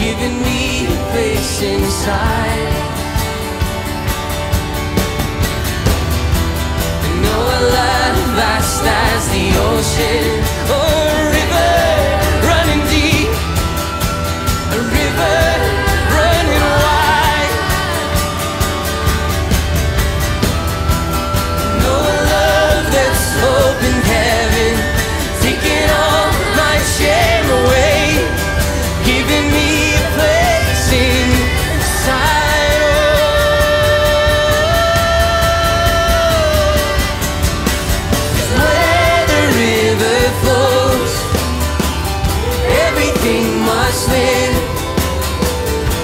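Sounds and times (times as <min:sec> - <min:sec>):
band playing worship music: 0:00.0 - 0:46.0
congregation singing along: 0:00.0 - 0:46.0.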